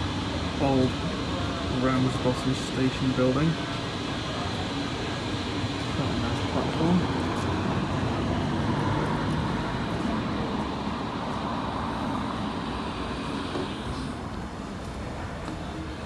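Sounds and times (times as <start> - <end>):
railway coach interior rumble: 0.0 - 16.0.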